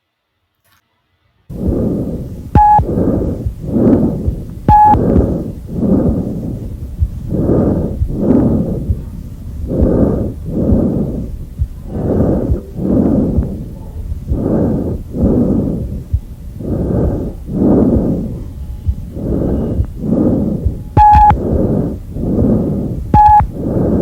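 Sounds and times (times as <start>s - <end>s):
harsh breathing: 1.5s - 24.0s.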